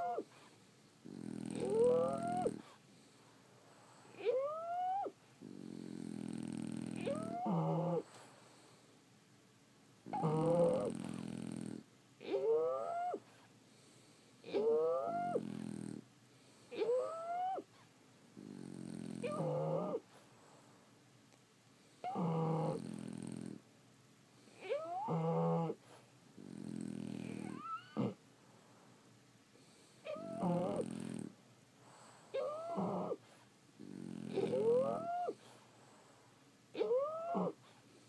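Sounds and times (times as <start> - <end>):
dogs snoring: 0.0 - 8.8, 10.0 - 20.8, 22.0 - 23.7, 24.4 - 28.2, 29.5 - 38.0.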